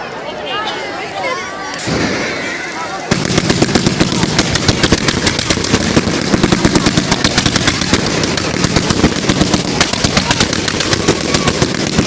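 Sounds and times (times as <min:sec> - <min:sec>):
fireworks banging: 0:01.8 - 0:12.0.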